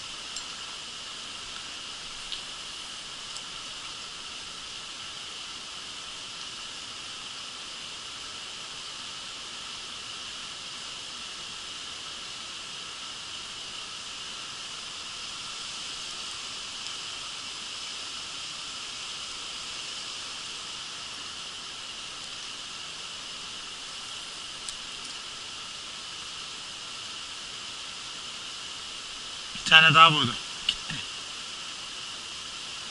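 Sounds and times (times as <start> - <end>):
creek running over stones: 0.0 - 32.9.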